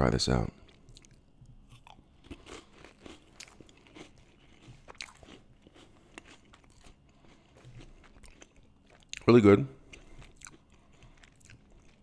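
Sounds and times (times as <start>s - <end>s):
person chewing crunchy cracker: 0.5s - 12.0s.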